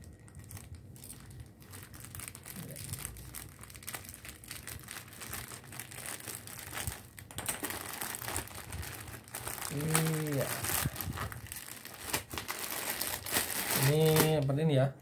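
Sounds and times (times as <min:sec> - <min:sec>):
plastic mailer bag crinkling: 0:00.0 - 0:14.7.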